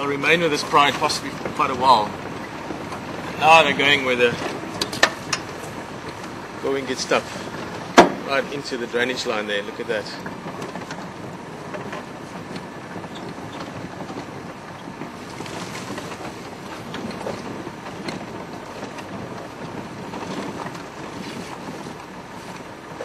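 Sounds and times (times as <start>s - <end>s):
vehicle engine and tyre noise: 0.0s - 23.0s
vehicle rattles and knocks: 0.0s - 23.0s.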